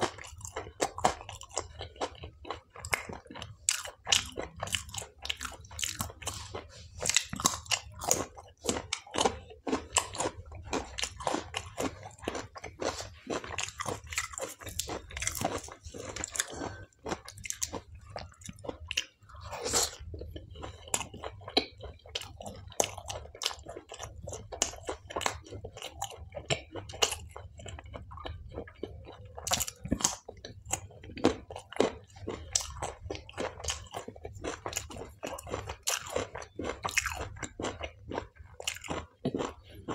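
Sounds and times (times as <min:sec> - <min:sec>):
mouth clicks and crunches: 0:00.0 - 0:39.9
person biting and chewing food: 0:00.0 - 0:39.9.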